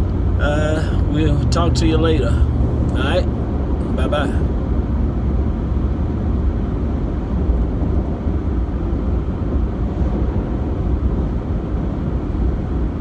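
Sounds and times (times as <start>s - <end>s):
road and engine rumble inside vehicle: 0.0s - 13.0s.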